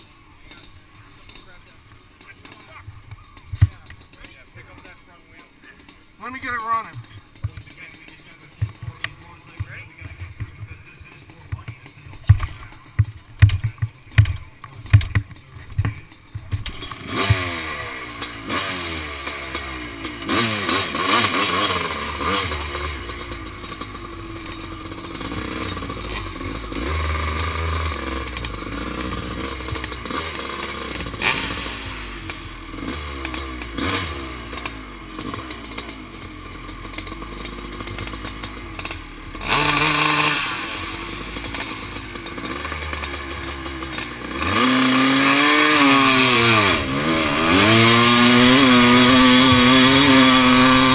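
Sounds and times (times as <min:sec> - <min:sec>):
motorcycle engine popping: 0:00.0 - 0:50.9
motorcycle engine revving: 0:00.0 - 0:50.9.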